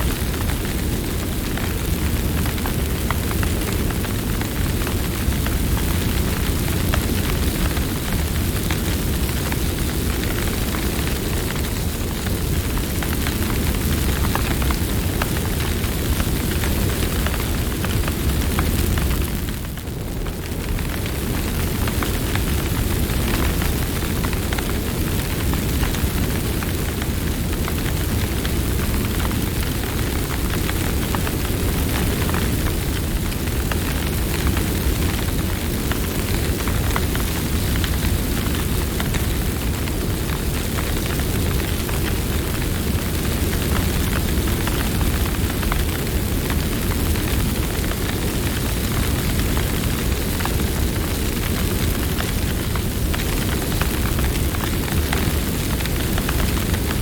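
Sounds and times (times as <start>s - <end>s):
burning wood crackling and popping: 0.0s - 57.0s
flames rumbling: 0.0s - 57.0s.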